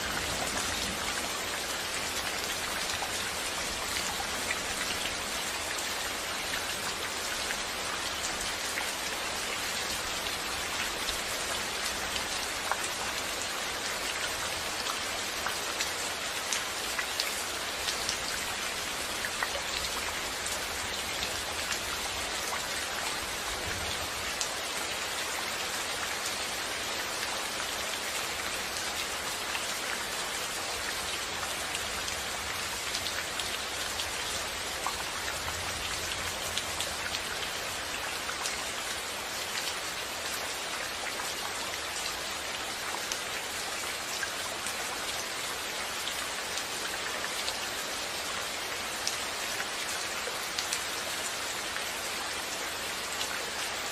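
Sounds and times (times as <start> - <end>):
rain pattering on a surface: 0.0 - 53.9.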